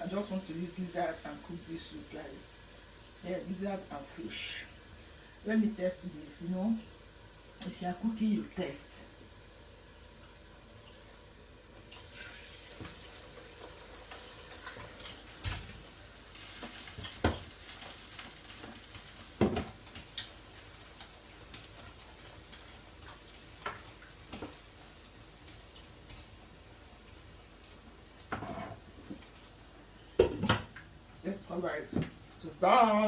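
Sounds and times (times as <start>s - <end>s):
soft sizzling simmer: 0.0s - 33.0s.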